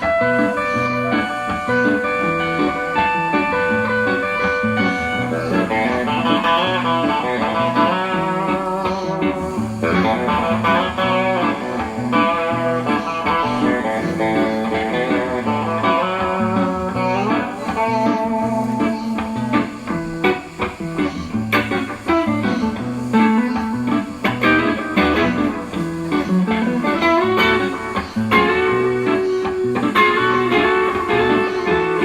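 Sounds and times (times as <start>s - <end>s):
fast-picked guitar: 0.0s - 32.0s.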